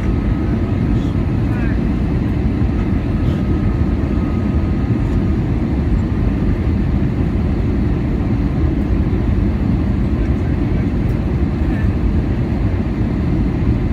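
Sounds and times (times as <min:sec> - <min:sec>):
aircraft cabin engine rumble: 0:00.0 - 0:13.9
faint steady whine: 0:00.0 - 0:13.9.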